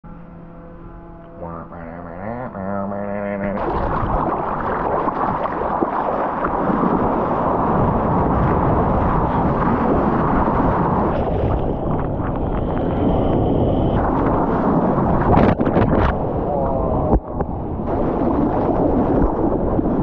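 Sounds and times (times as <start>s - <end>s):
surf and churning seawater: 2.8s - 20.0s
wind buffeting microphone: 3.5s - 20.0s.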